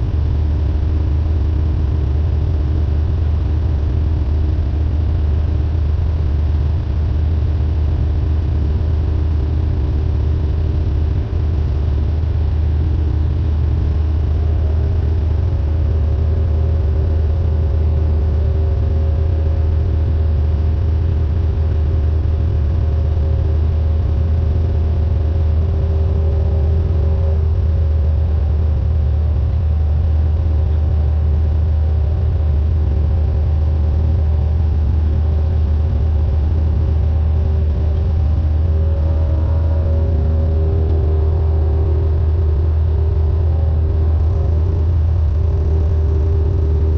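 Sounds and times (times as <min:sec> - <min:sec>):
small plane engine and propeller drone: 0:00.0 - 0:46.9.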